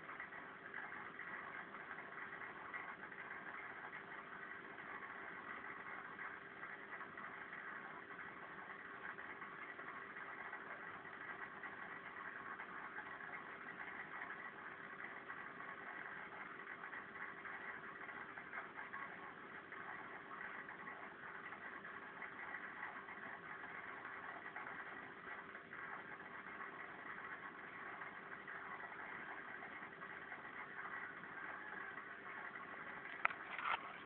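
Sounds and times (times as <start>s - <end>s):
constant hiss: 0.0s - 34.0s
mechanical hum: 0.0s - 34.0s.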